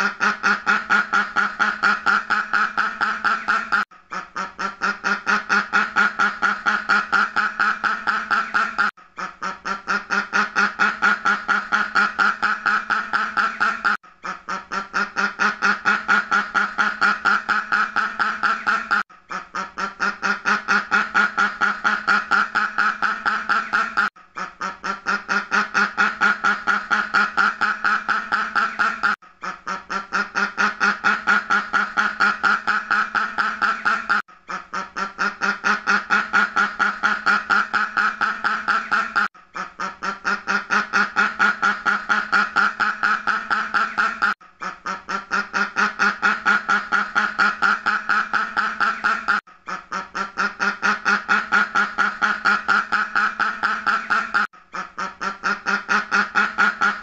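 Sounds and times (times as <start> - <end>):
duck quacking: 0.0 - 57.0.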